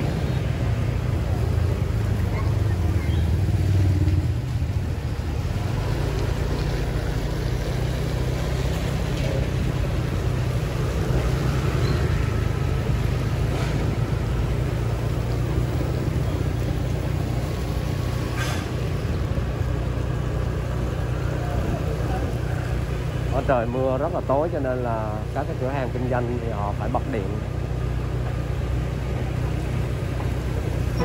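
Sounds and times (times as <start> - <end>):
tyres hissing on wet street: 0.0 - 31.0
vehicle engine rumble: 0.0 - 31.0.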